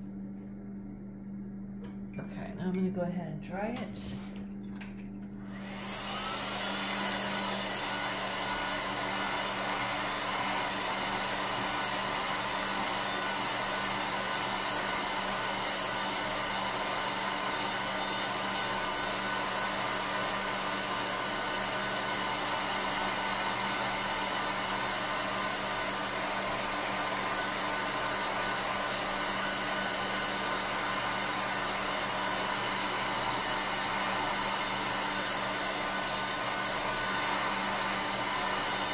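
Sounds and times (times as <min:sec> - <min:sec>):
heat gun blowing: 0:05.4 - 0:38.9.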